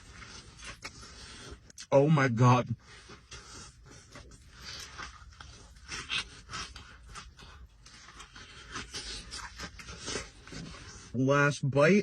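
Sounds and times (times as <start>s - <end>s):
person chewing food: 0.0s - 1.9s, 2.8s - 11.2s
wet mouth clicks and crunches: 0.0s - 1.9s, 2.9s - 11.1s.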